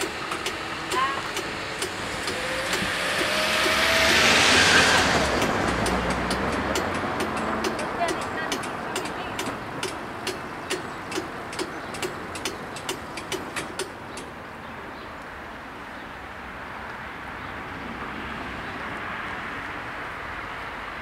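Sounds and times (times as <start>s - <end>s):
car approaching: 0.0s - 21.0s
road traffic hum: 0.0s - 21.0s.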